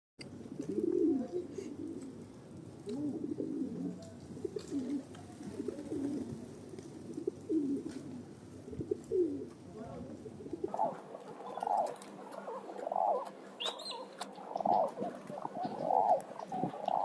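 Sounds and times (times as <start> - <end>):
pigeons cooing: 0.4 - 17.0.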